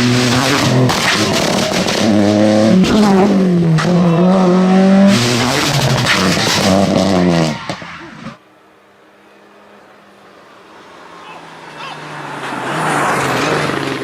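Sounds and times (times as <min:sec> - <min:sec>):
rally car engine at full throttle: 0:00.0 - 0:08.4, 0:10.1 - 0:14.0.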